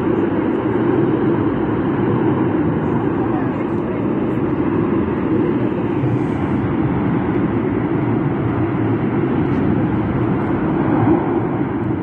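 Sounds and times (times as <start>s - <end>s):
fire roaring: 0.0s - 12.0s.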